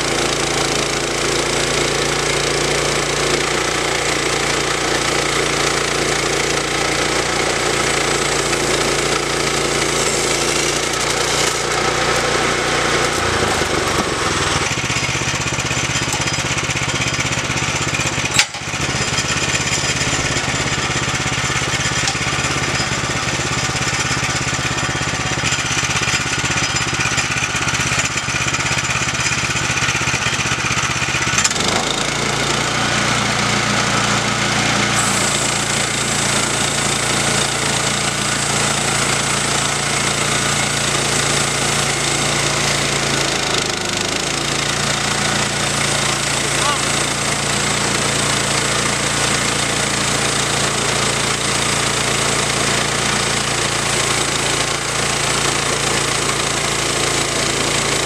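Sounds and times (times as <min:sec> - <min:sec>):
bandsaw mill engine running: 0:00.0 - 0:58.0.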